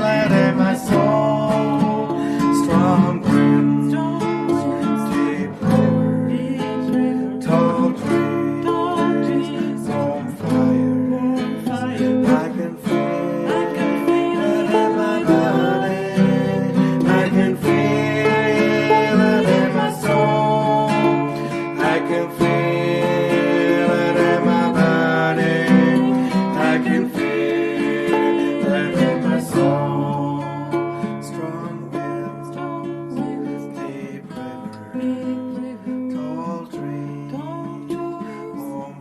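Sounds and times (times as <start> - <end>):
person singing: 0.0 - 39.0
strummed acoustic guitar: 0.0 - 39.0.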